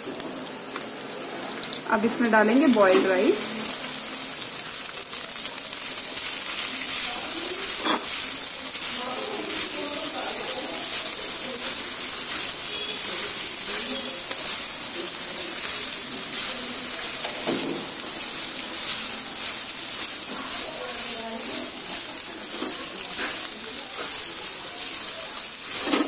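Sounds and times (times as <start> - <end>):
rice sizzling in oil: 0.0 - 26.0.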